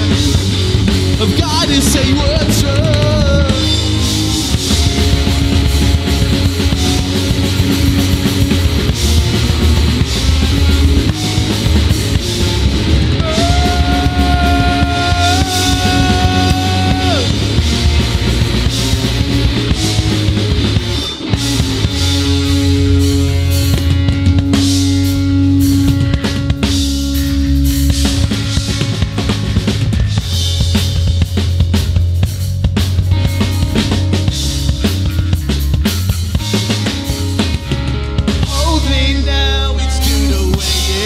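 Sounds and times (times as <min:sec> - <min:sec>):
punk rock band playing: 0:00.0 - 0:41.0.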